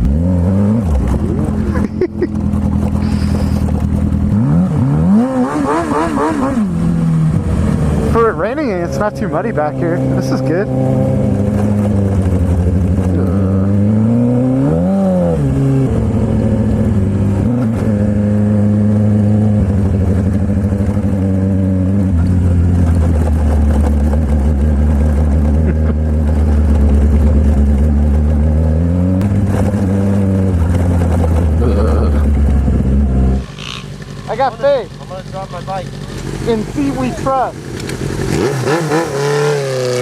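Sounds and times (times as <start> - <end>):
sportbike engine running: 0.0 - 40.0.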